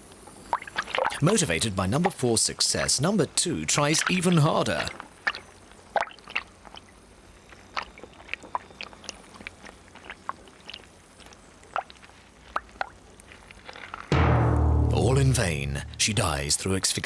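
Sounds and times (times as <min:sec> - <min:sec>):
wet crackles: 0:00.0 - 0:14.1.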